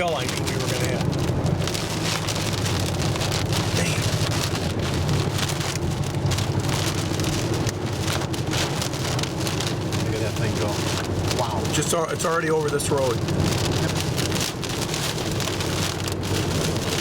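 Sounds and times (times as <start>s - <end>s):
rain pelting a vehicle: 0.0s - 17.0s
vehicle driving rumble: 0.0s - 17.0s.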